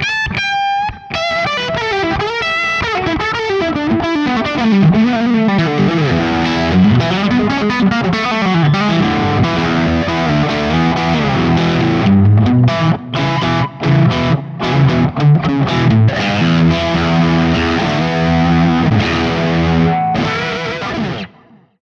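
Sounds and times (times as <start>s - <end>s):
distorted electric guitar: 0.0s - 21.8s.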